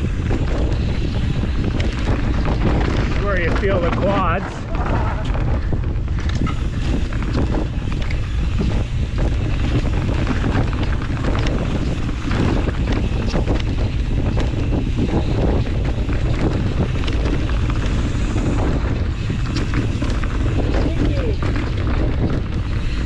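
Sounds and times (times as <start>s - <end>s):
bike clattering over rough ground: 0.0s - 23.0s
wind buffeting microphone: 0.0s - 23.0s.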